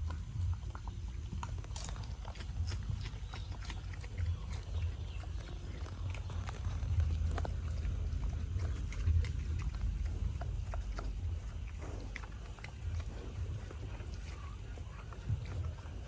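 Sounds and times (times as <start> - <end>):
low steady rumble: 0.0 - 16.0
pigs crunching and chomping: 0.0 - 16.0.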